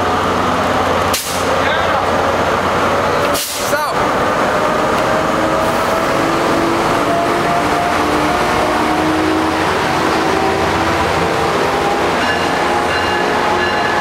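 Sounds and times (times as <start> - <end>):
diesel locomotive engine running: 0.0 - 14.0.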